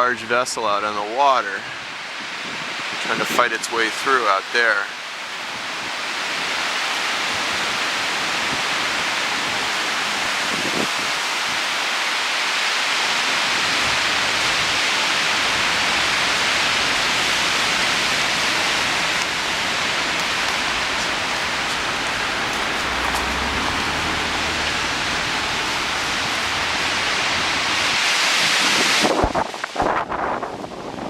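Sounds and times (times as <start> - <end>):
wind rushing through pines: 0.0 - 31.0.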